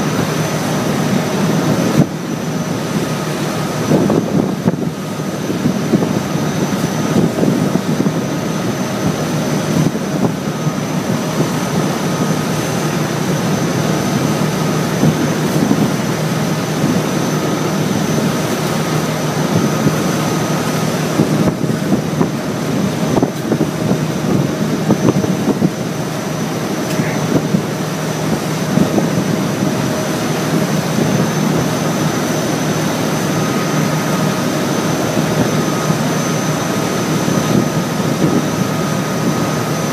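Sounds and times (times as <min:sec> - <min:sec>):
boat engine droning: 0:00.0 - 0:39.9
rushing water noise: 0:00.0 - 0:39.9.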